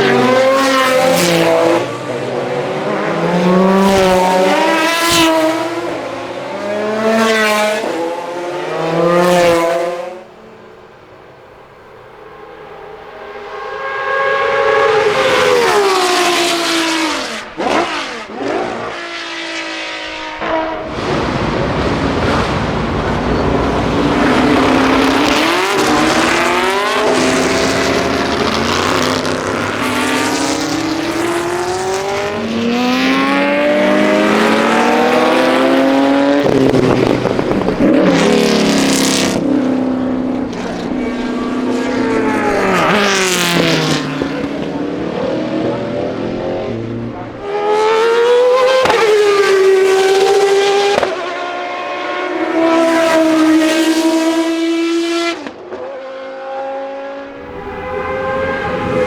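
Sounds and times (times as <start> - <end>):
racing car engines at full throttle: 0.0 - 59.0.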